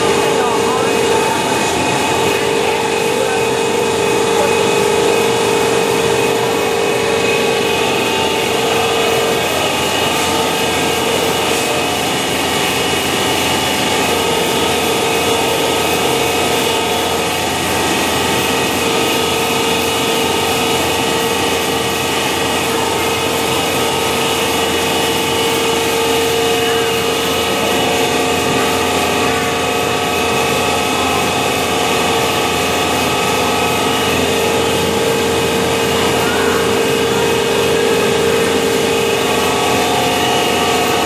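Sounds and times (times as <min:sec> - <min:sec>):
buffing machine motor whine: 0:00.0 - 0:41.0.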